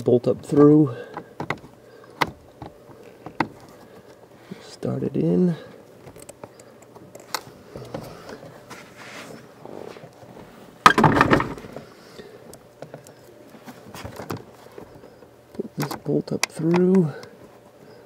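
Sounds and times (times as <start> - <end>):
hand handling clicks and rustles: 0.4 - 4.9, 5.7 - 18.0.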